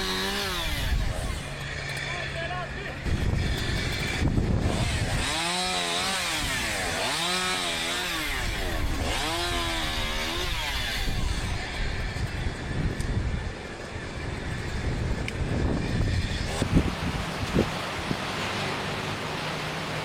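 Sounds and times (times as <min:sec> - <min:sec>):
chainsaw engine revving: 0:00.0 - 0:13.1, 0:14.5 - 0:20.0
steady rough noise: 0:00.0 - 0:20.0.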